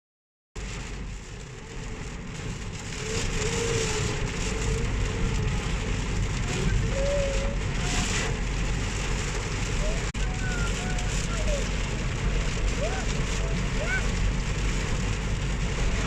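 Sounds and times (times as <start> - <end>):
low rumble: 0.6 - 16.0
steady rain falling: 0.6 - 16.0.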